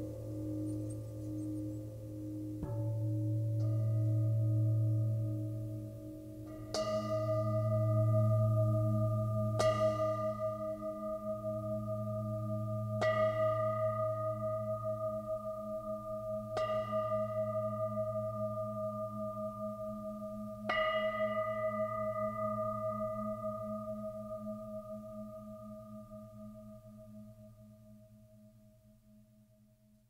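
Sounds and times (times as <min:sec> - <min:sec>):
low wavering hum: 0:00.0 - 0:29.1.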